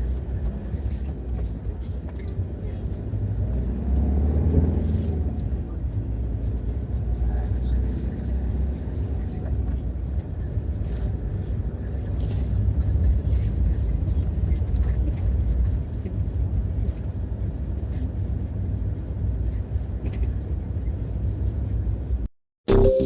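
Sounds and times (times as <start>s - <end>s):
engine and road rumble: 0.0s - 22.3s.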